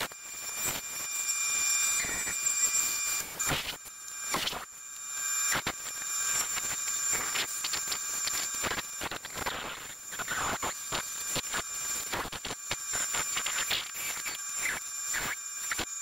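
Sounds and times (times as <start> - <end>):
bandsaw whining: 0.0 - 16.0.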